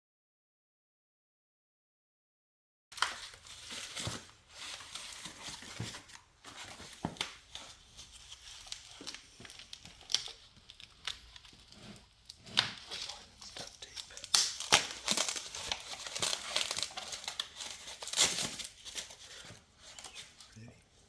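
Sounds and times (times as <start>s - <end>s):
packaging crinkling and tearing: 2.9s - 20.6s.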